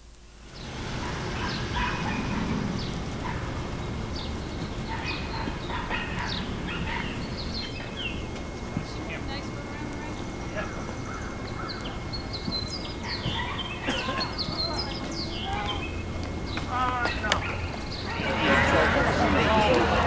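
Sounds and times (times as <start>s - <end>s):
steady background noise: 0.0s - 20.0s
dogs barking: 0.9s - 20.0s.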